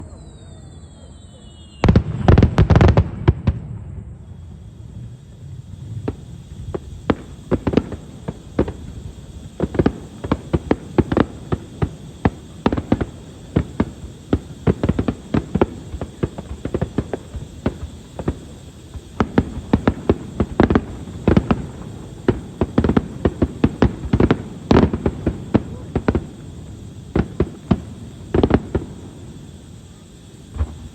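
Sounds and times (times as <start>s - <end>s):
fireworks bangs and pops: 1.6s - 30.9s.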